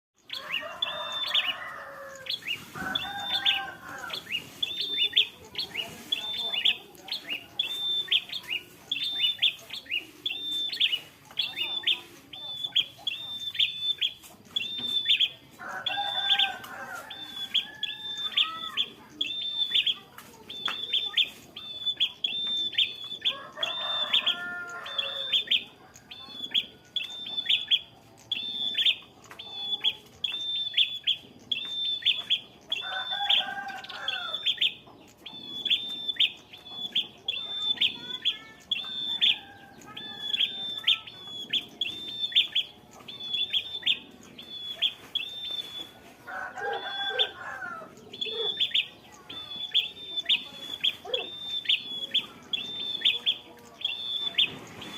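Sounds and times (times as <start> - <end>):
chicken-like bird calls: 0.2 - 20.2, 20.8 - 54.9.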